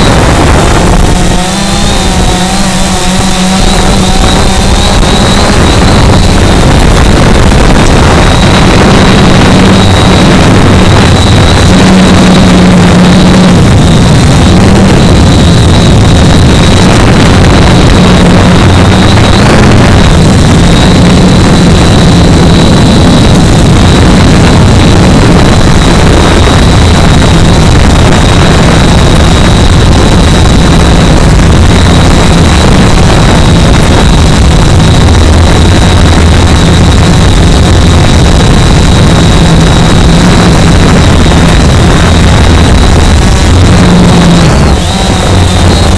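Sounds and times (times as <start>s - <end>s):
quadcopter motors and propellers: 0.0s - 45.9s.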